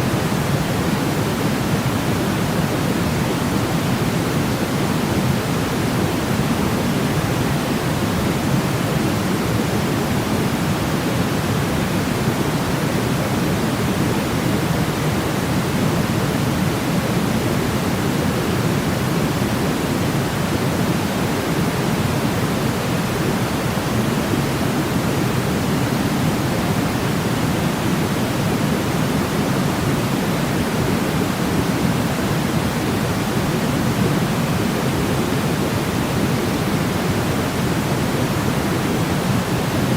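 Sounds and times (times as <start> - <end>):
low steady hiss: 0.0 - 39.9.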